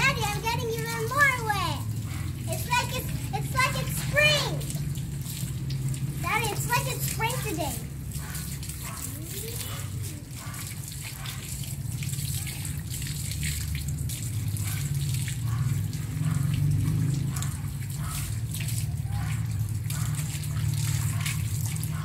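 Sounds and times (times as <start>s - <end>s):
hose water running over dog: 0.0s - 22.0s
water splashes and drips: 0.0s - 22.0s.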